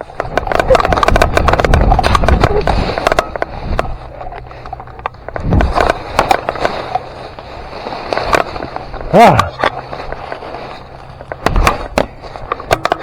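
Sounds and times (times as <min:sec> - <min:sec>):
rustling through dry brush: 0:00.0 - 0:12.7.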